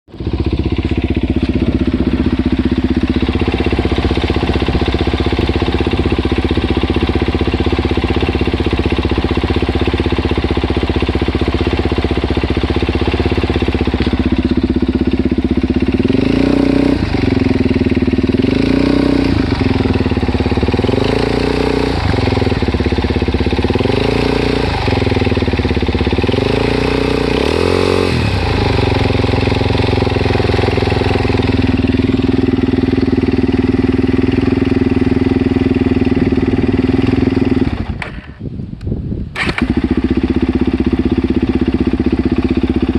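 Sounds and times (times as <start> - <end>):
engine revving: 0.1 - 38.1, 39.4 - 42.9
motorcycle engine idling with ticking: 0.1 - 42.9.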